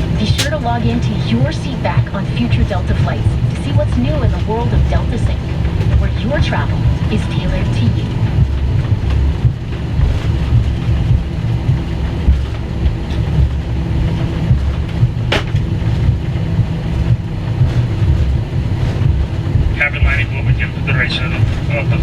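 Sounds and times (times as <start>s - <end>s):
aircraft cabin rumble: 0.0s - 22.0s.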